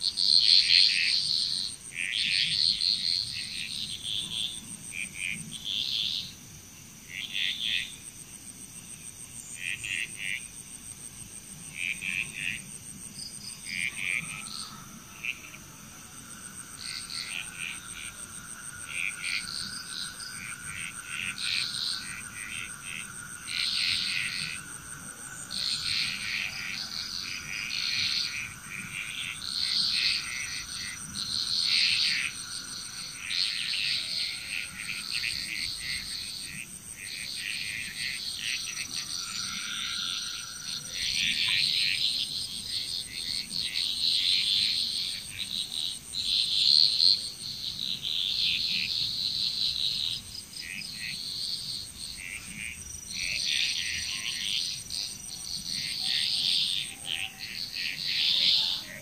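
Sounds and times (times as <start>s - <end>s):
frogs calling: 0.0s - 59.0s.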